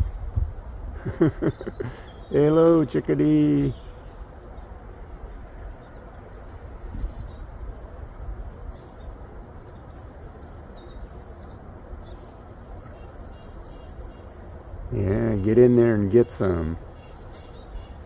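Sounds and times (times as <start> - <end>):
low background noise: 0.0 - 18.0
songbirds chirping: 0.0 - 18.0.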